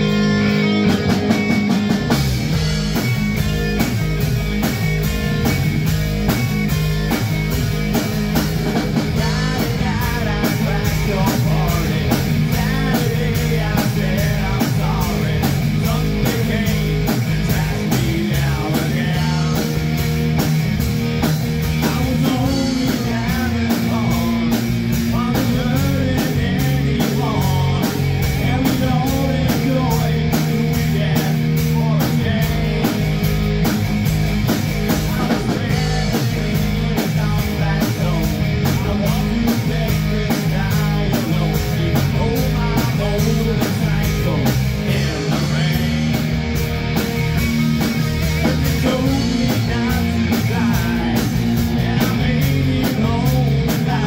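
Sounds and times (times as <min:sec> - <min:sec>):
vocals: 0:00.0 - 0:02.8, 0:07.6 - 0:20.6, 0:21.2 - 0:33.8, 0:34.4 - 0:47.0, 0:48.1 - 0:54.0
drum kit beat: 0:00.0 - 0:54.0
electric guitars and bass: 0:00.0 - 0:54.0.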